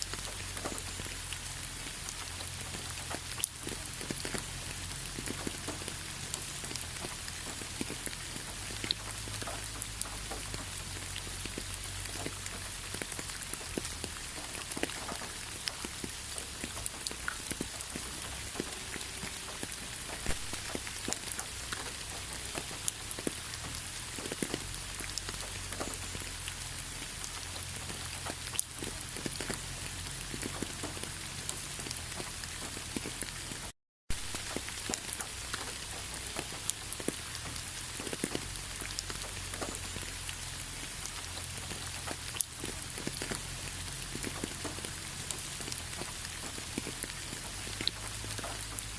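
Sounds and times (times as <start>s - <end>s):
raindrops pattering on surfaces: 0.0s - 48.9s
steady rain hiss: 0.0s - 48.9s.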